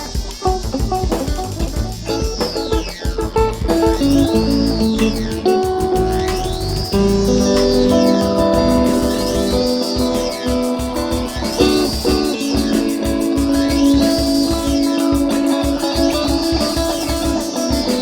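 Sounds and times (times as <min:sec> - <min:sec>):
guitar-led band music: 0:00.0 - 0:18.0.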